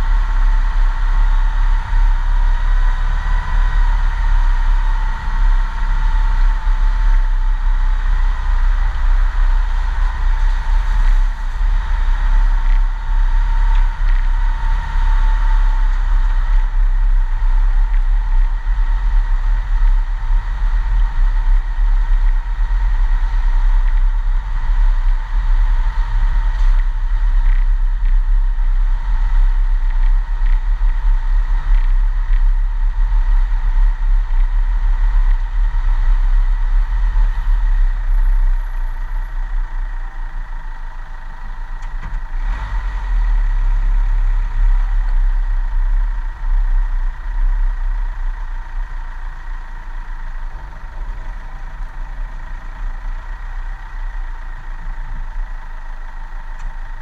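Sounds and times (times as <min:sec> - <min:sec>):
engine and tyres rumbling: 0:00.0 - 0:57.0.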